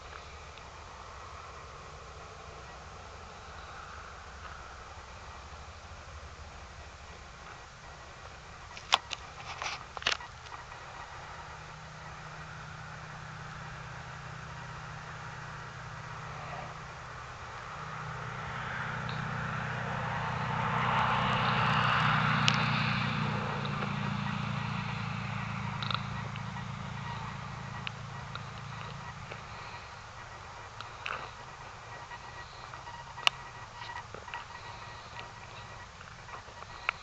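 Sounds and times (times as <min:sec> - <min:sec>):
car passing: 0:00.0 - 0:37.0.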